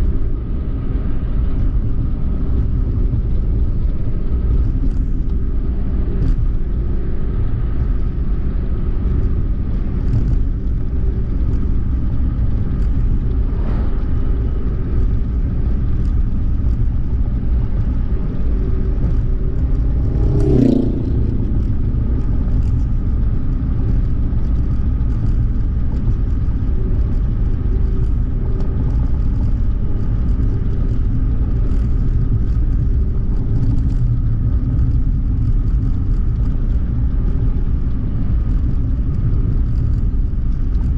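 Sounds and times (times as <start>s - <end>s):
vehicle engine and tyres rumbling: 0.0s - 40.9s.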